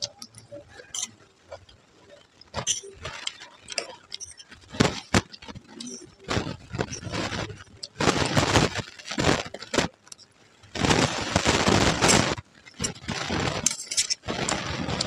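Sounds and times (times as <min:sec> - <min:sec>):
puffed rice crunching: 0:00.0 - 0:15.0.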